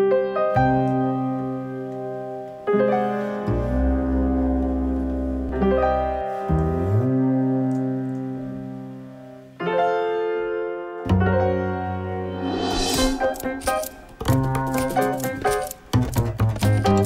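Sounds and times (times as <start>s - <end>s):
solo piano chords: 0.0s - 15.9s.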